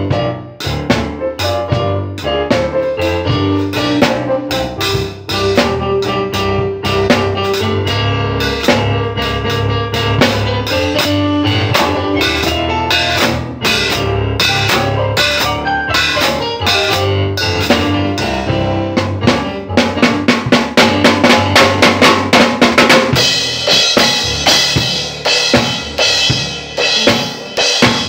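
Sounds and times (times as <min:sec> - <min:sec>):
drum kit playing: 0:00.0 - 0:28.0.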